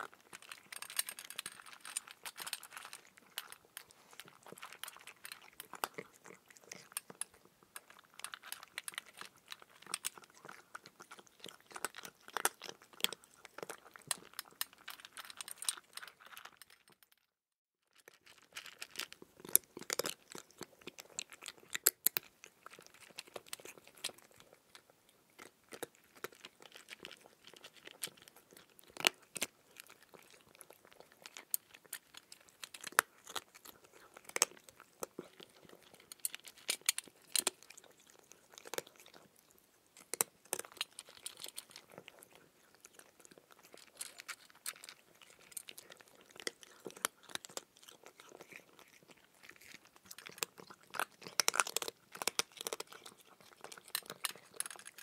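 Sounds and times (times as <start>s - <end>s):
person chewing cucumber: 0.0s - 16.9s, 18.0s - 55.0s.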